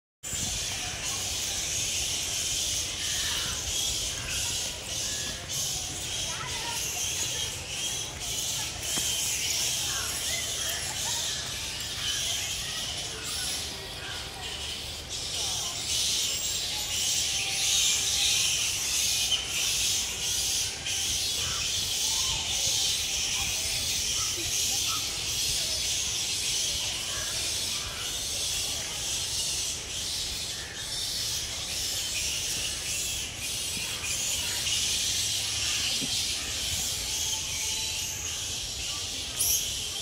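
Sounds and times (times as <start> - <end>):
faint bird chirps: 0.3 - 40.0.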